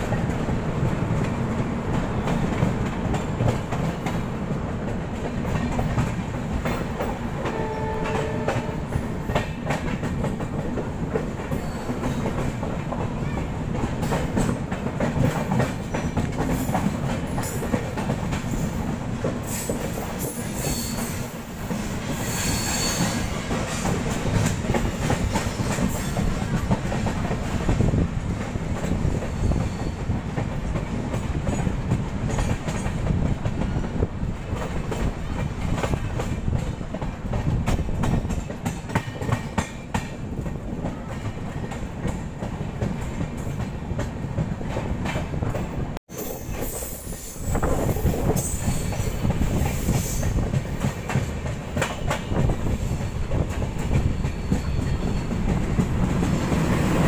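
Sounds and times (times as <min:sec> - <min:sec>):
rumble of train wheels on rail: 0:00.0 - 0:57.0.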